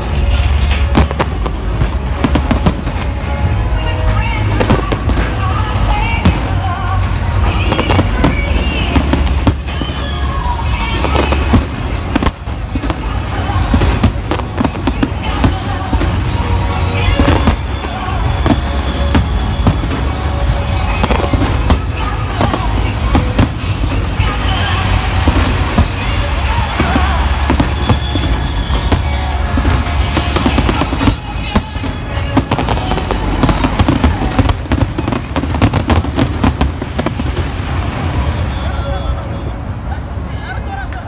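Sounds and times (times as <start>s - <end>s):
fireworks bangs and crackles: 0.0s - 41.0s
music playing: 0.0s - 41.0s.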